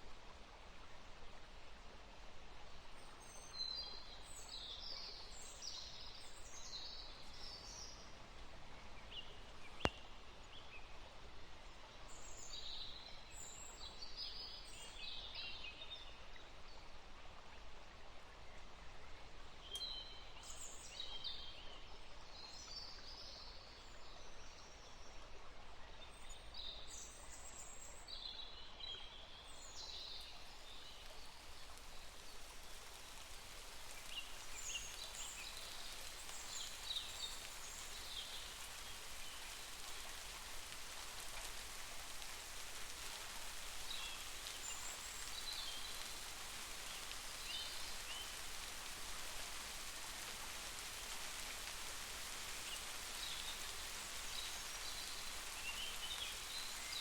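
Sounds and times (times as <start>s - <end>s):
rain hiss: 0.0s - 23.4s, 26.2s - 57.0s.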